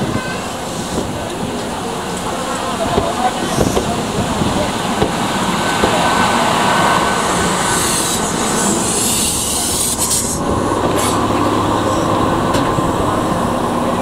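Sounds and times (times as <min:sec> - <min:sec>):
low hum of train equipment: 0:00.0 - 0:14.0
train wheels on rails: 0:00.0 - 0:14.0.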